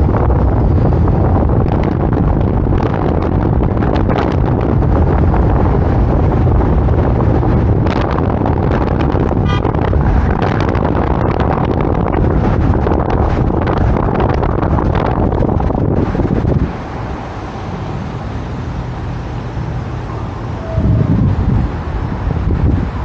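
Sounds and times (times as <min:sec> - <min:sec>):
car road and traffic noise: 0:00.0 - 0:23.0
wind buffeting microphone: 0:00.0 - 0:23.0.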